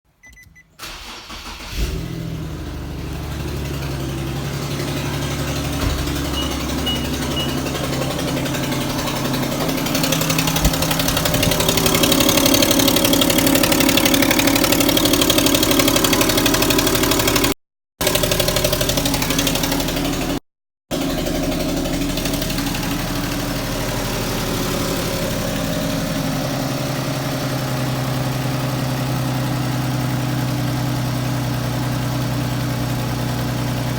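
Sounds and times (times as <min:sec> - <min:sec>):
car engine starting and idling: 0:00.3 - 0:33.9
engine knocking: 0:02.6 - 0:33.9.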